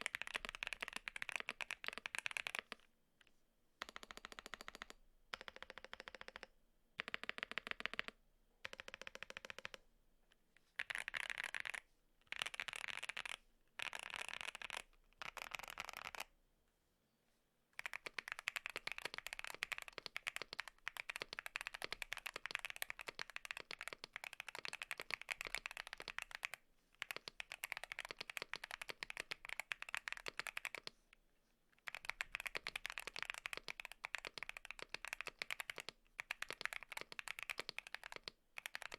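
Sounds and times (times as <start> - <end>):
mechanical keyboard typing: 0.0 - 2.8, 3.8 - 9.8, 10.8 - 16.3, 17.8 - 31.0, 31.8 - 38.9.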